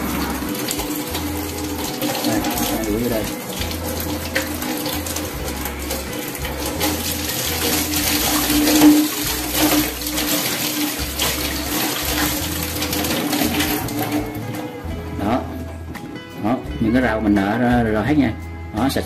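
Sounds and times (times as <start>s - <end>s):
tap water running into sink: 0.0s - 15.4s.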